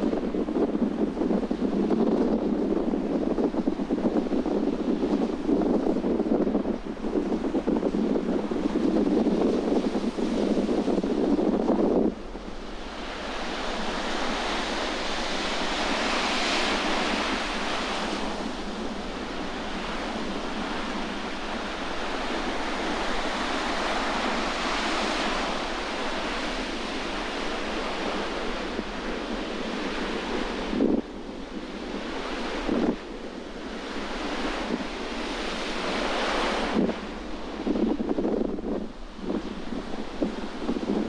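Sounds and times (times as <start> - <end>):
sea waves breaking: 0.0 - 41.0
wind blowing: 0.0 - 41.0
wind buffeting microphone: 0.0 - 41.0.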